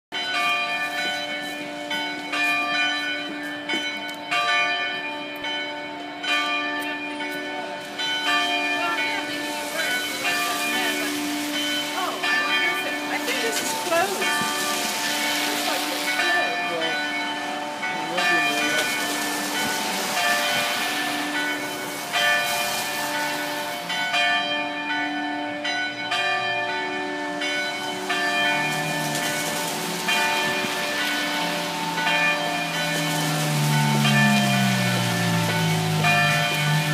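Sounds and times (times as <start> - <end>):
church bells pealing: 0.1 - 36.9.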